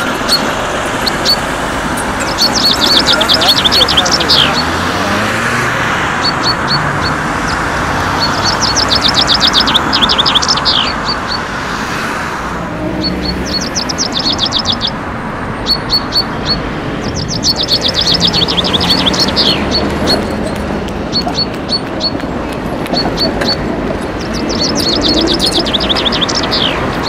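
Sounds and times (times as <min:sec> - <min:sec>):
songbird singing: 0:00.0 - 0:12.0, 0:12.7 - 0:27.0
street traffic: 0:00.0 - 0:27.0.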